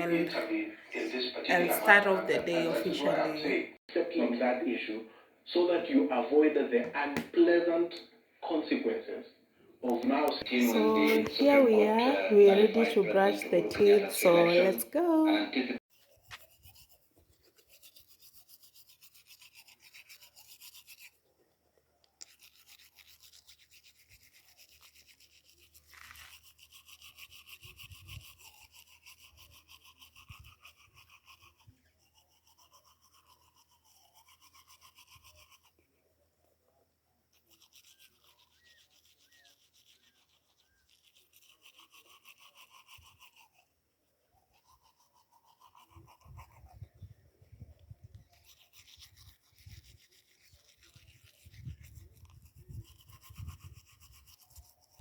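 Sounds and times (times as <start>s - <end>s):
toothbrush scrubbing teeth: 0.0s - 3.4s, 10.4s - 15.3s, 15.9s - 21.4s, 22.0s - 35.9s, 37.3s - 55.0s.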